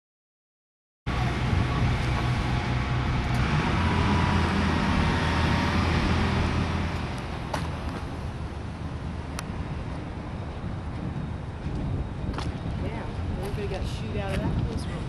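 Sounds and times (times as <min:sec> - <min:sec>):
car engine and road noise: 0:01.1 - 0:14.7.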